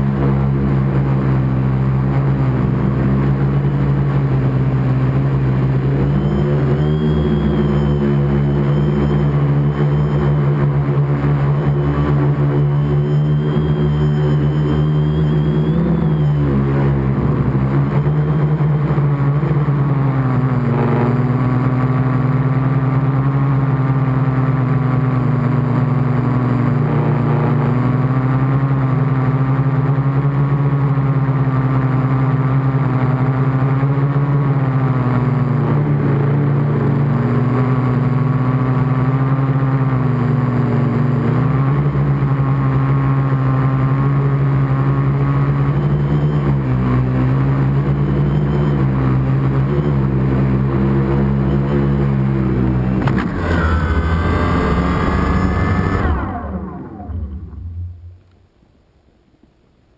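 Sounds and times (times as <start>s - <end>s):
quadcopter motors buzzing: 0.0s - 57.7s.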